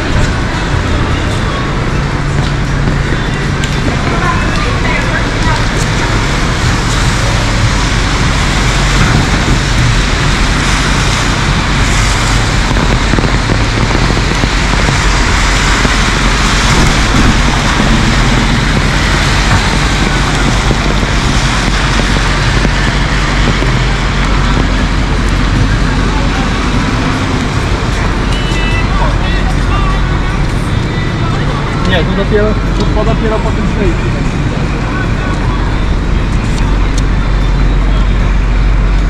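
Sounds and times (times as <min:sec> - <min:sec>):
heavy rain hissing: 0:00.0 - 0:39.0
street traffic engine hum: 0:00.0 - 0:39.0.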